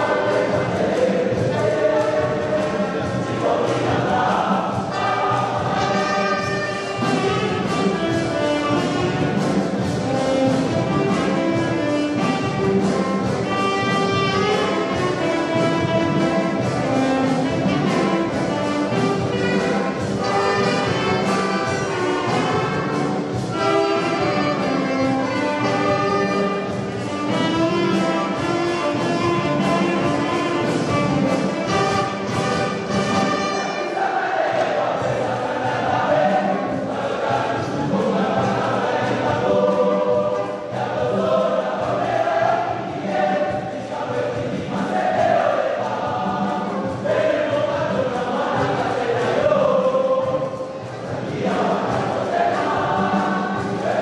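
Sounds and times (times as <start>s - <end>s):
drum kit beat: 0.0s - 54.0s
saxophones and trumpets: 0.0s - 54.0s.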